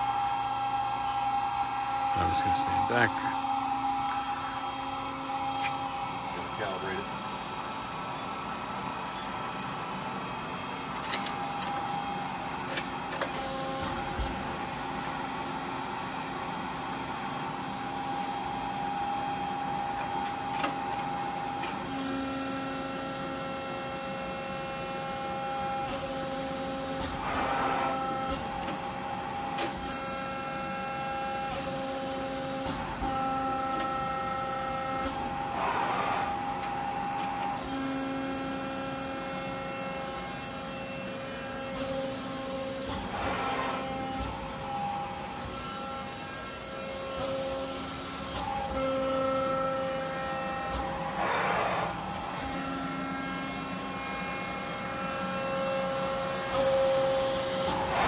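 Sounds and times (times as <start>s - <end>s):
machine whining tones: 0.0s - 14.5s, 17.1s - 58.0s
hydraulic press machine hum: 0.0s - 58.0s.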